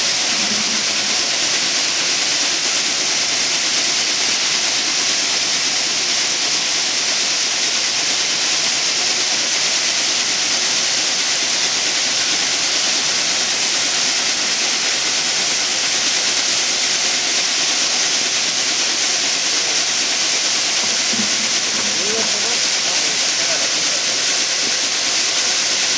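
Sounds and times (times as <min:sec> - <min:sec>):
washing machine rushing water: 0:00.0 - 0:25.9.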